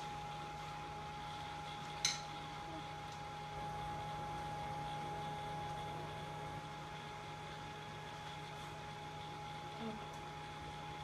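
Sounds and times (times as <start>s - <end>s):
electric blower fan whirring: 0.0s - 11.0s
thin constant whine: 0.0s - 11.0s.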